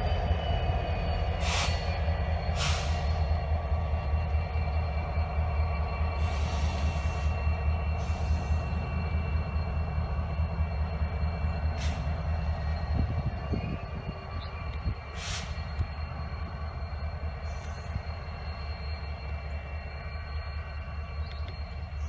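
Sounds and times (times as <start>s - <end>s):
freight train rumbling: 0.0s - 22.0s
high whine of train wheels: 0.0s - 22.0s.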